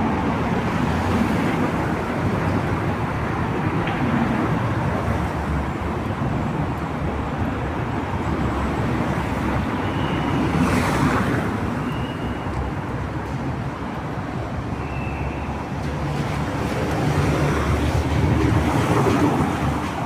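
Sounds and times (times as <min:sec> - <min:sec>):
traffic on wet road: 0:00.0 - 0:20.0.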